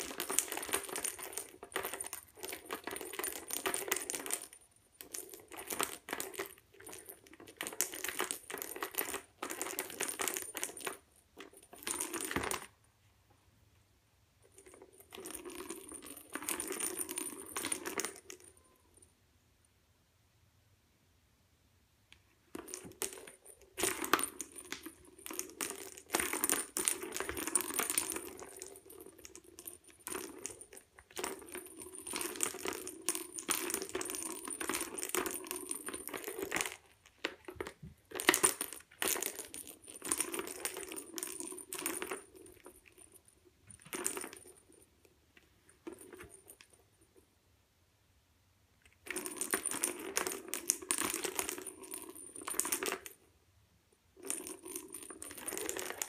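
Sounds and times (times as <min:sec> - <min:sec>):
plastic ball rattling in track: 0:00.0 - 0:12.7, 0:14.5 - 0:18.5, 0:22.4 - 0:46.8, 0:48.9 - 0:53.2, 0:54.2 - 0:56.0.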